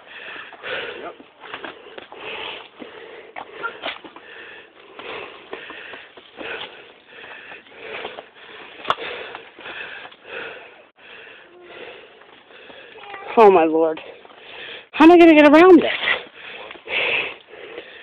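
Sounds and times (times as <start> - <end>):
heavy rhythmic breathing: 0.0 - 15.0, 15.9 - 18.0.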